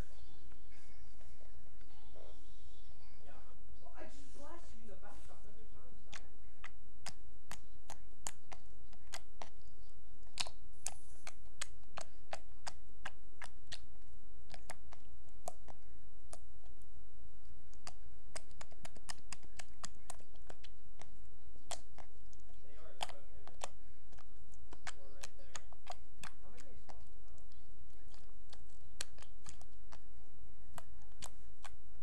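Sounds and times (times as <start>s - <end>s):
fingers squishing wet slime: 6.0s - 32.0s.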